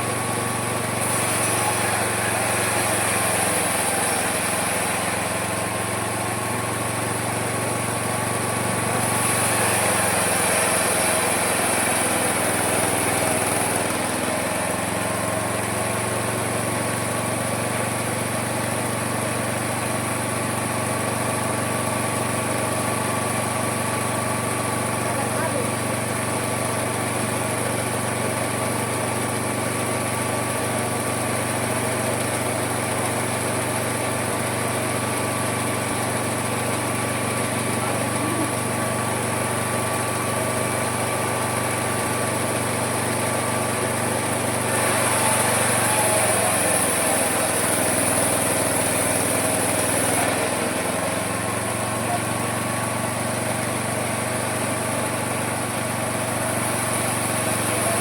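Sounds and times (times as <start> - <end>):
sawmill running: 0.0 - 58.0
saw cutting wood hiss: 0.1 - 19.4, 29.6 - 55.0, 55.6 - 58.0.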